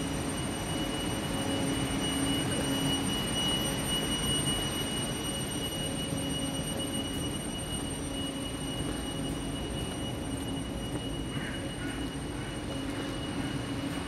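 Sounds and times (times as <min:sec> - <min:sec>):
electric train humming: 0:00.0 - 0:14.0
high-pitched whine: 0:00.0 - 0:14.0.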